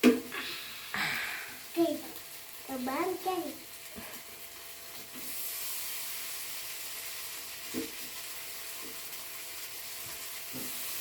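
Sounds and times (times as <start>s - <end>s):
sausages sizzling in a pan: 0.0s - 11.0s.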